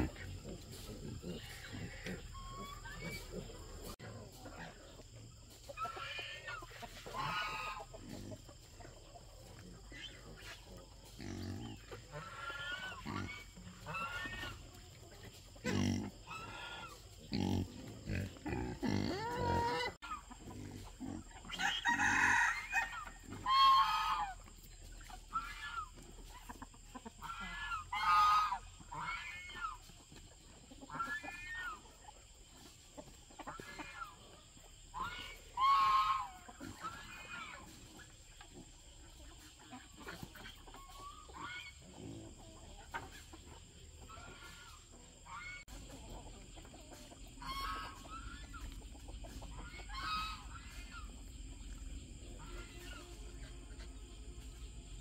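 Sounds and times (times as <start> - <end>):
pigs grunting: 0.0 - 5.2, 5.8 - 29.8, 33.4 - 54.1
chickens clucking and calling: 0.0 - 55.0.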